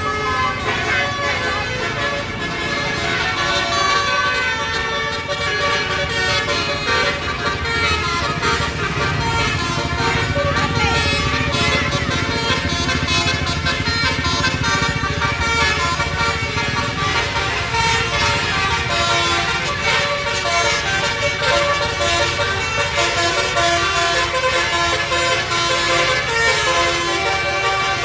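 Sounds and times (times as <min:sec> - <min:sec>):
bus engine running: 0:00.0 - 0:28.0
musical bus horn melody: 0:00.0 - 0:28.0.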